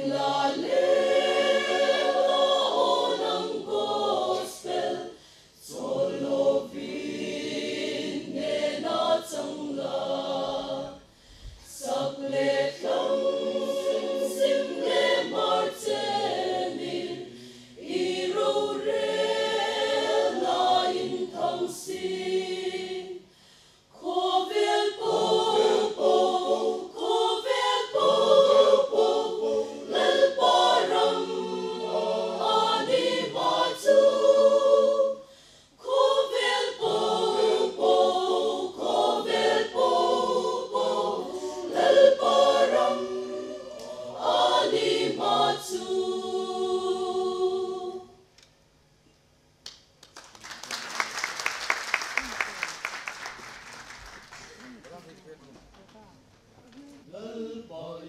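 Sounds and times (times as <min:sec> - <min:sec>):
mixed choir singing a hymn: 0:00.0 - 0:23.3, 0:23.9 - 0:48.2, 0:57.1 - 0:58.0.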